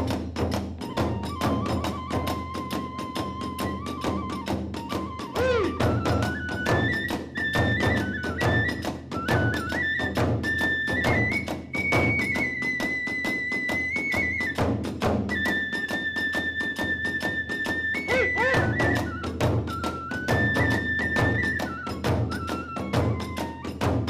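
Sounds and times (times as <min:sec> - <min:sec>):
bamboo flute melody: 0:00.0 - 0:24.0
drums beating: 0:00.0 - 0:24.0.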